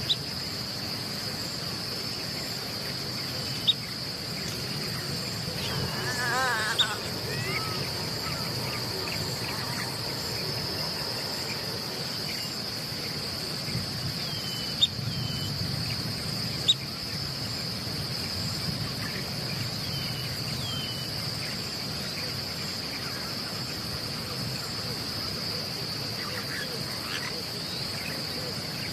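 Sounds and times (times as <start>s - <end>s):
high-pitched insect drone: 0.0s - 25.2s.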